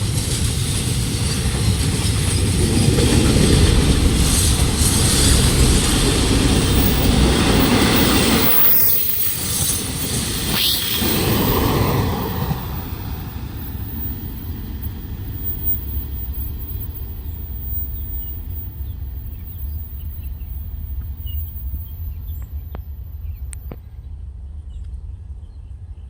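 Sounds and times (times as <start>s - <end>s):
freight train rumble: 0.0s - 26.0s.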